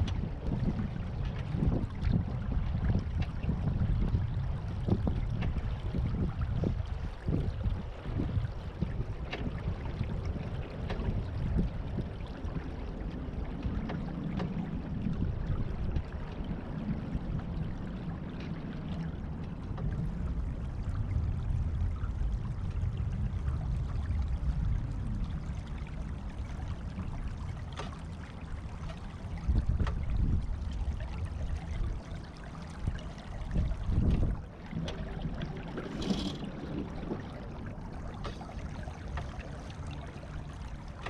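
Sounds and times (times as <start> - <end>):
water gurgling along boat hull: 0.0 - 41.0
wind rumble on microphone: 0.0 - 41.0.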